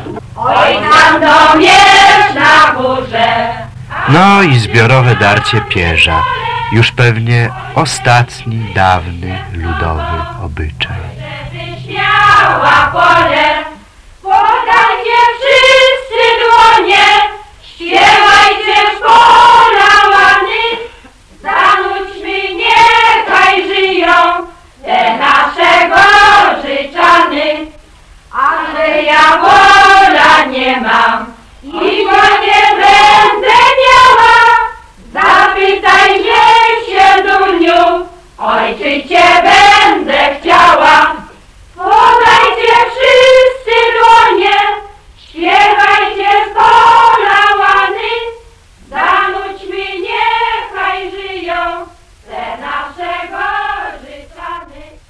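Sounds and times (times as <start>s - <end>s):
women singing folk song together: 0.0s - 6.8s, 11.1s - 55.0s.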